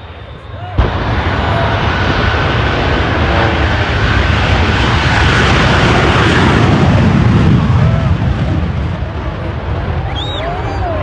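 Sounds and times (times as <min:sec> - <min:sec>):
rocket engine rushing roar: 0:00.0 - 0:11.0
stunt plane engine: 0:00.8 - 0:10.4.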